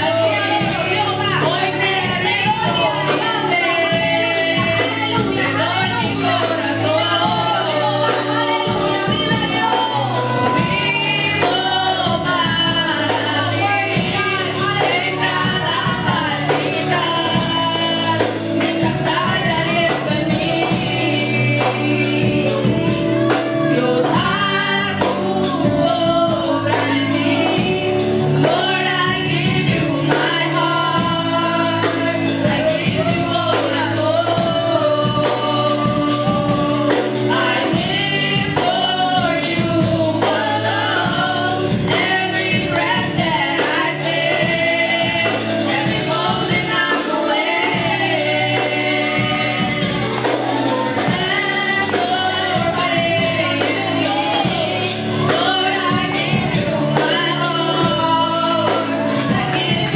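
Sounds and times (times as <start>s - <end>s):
instrumental backing: 0.0s - 59.9s
women singing worship song: 0.0s - 59.9s.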